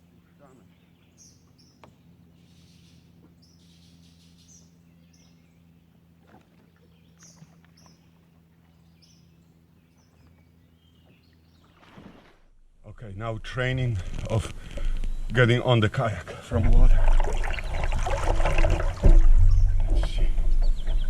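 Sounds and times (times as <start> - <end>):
birds chirping: 0.0 - 12.3, 13.5 - 21.0
low steady hum: 0.0 - 21.0.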